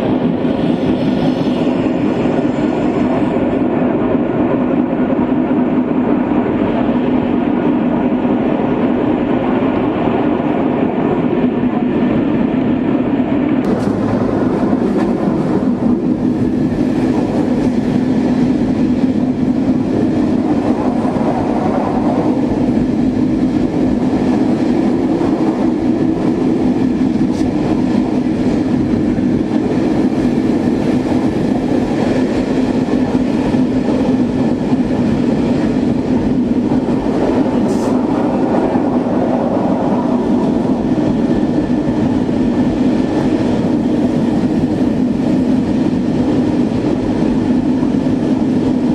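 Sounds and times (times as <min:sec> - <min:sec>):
train rumbling along: 0:00.0 - 0:48.9.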